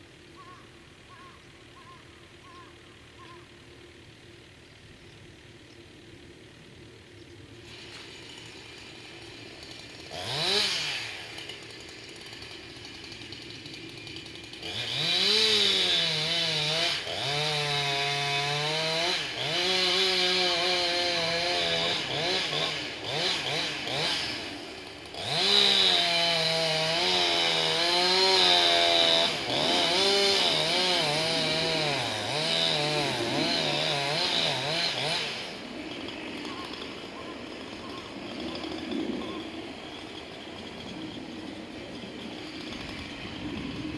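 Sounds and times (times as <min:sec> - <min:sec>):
chainsaw cutting wood: 0:06.1 - 0:43.9.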